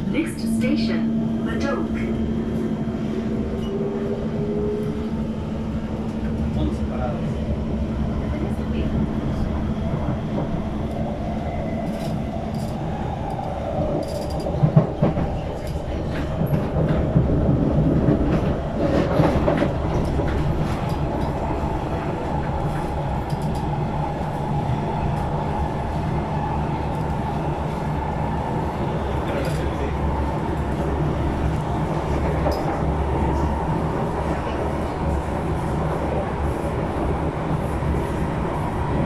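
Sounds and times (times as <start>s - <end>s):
metro train rumble inside carriage: 0.0s - 39.0s.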